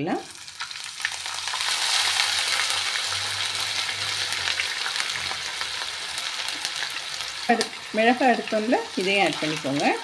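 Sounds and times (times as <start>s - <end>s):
ginger sizzling in hot oil: 0.0s - 10.0s.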